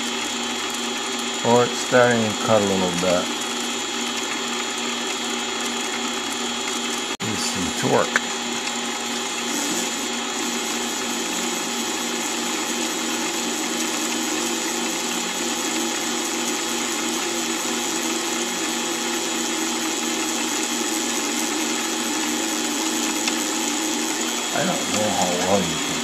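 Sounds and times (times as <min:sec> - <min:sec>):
lathe motor whining: 0:00.0 - 0:26.0.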